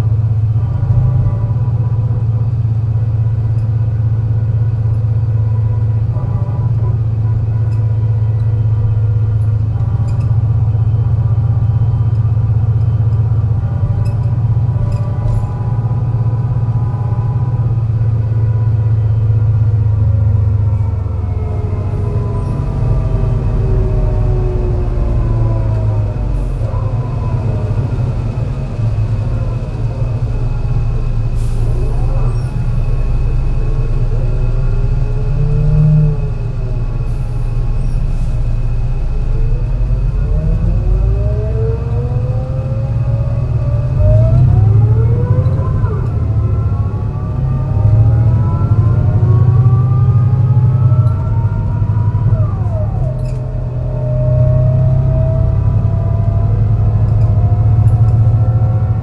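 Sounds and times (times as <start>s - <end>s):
bus engine drone with misfire: 0.0s - 59.0s
gearbox whine: 0.0s - 59.0s.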